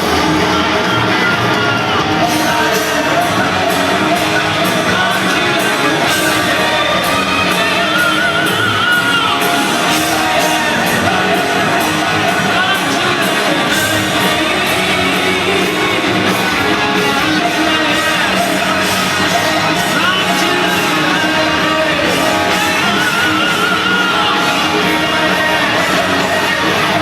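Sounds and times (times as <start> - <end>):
drums: 0.0 - 27.0
electric guitars: 0.0 - 27.0
high yelled singing voice: 0.0 - 27.0.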